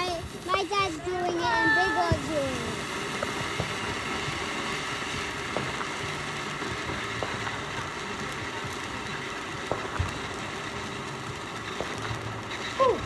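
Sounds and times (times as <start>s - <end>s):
firework fountain hissing: 0.0s - 13.0s
faint pops: 2.0s - 13.0s.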